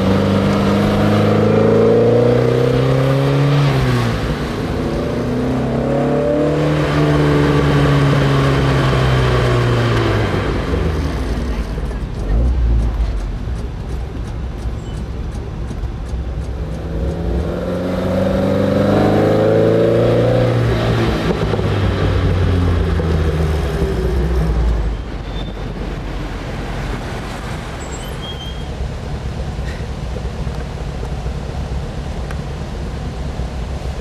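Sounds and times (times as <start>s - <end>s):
car engine accelerating: 0.0s - 27.9s.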